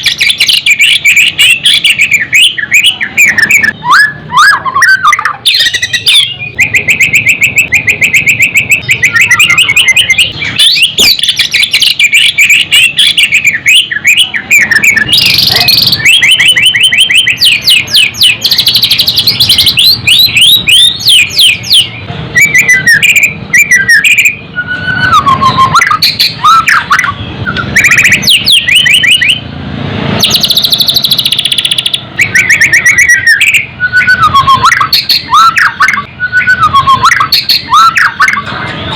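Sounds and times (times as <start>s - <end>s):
bird singing trills and whistles: 0.0s - 29.5s, 30.2s - 38.9s.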